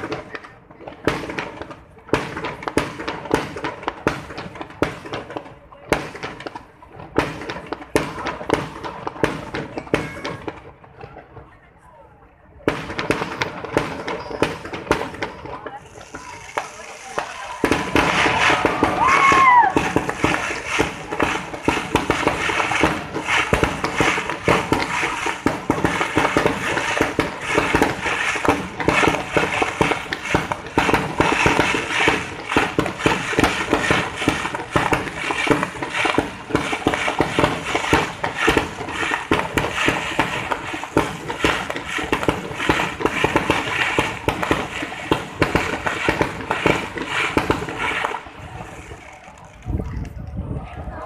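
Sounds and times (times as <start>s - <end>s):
fireworks crackling and popping: 0.0s - 51.0s.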